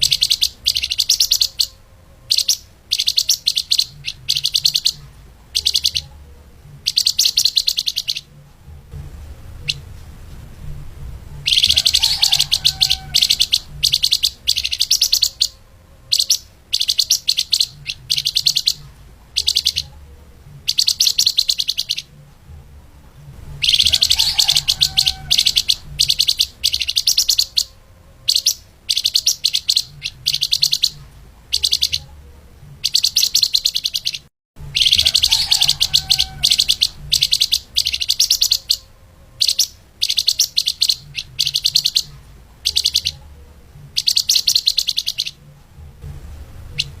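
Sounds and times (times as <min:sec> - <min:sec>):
bird singing rapid trills: 0:00.0 - 0:06.2, 0:06.8 - 0:08.3, 0:11.4 - 0:20.0, 0:20.6 - 0:22.1, 0:23.6 - 0:32.1, 0:32.8 - 0:43.2, 0:44.0 - 0:45.4.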